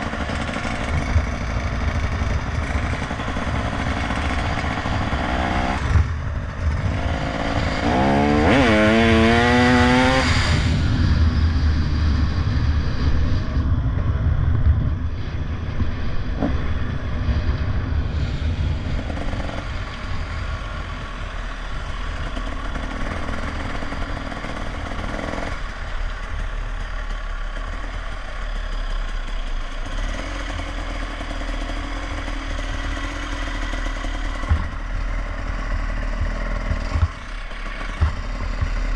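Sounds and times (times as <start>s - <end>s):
motorcycle engine revving: 0.0s - 14.1s, 14.7s - 38.9s.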